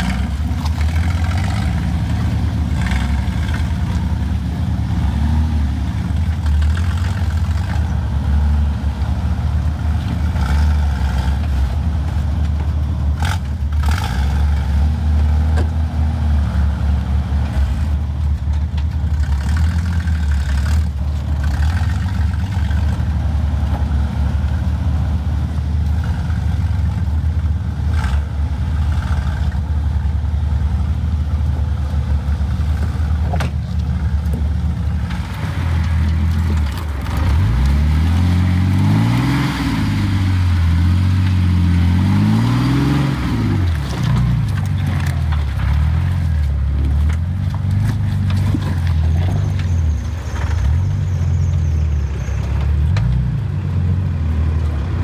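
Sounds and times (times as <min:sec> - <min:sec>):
car engine running low revs: 0:00.0 - 0:55.0.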